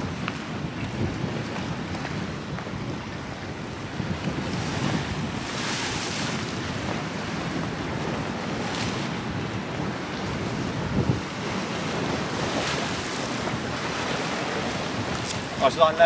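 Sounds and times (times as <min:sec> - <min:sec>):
waves washing on shore: 0:00.0 - 0:16.0
wind buffeting microphone: 0:00.0 - 0:16.0.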